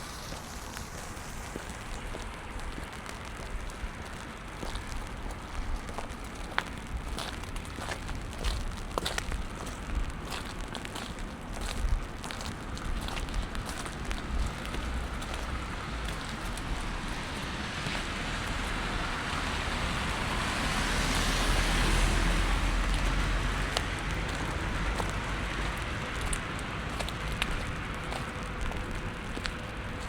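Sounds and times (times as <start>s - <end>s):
car tyres hissing on wet road: 0.0s - 8.3s, 9.1s - 30.0s
rain pattering: 0.0s - 30.0s.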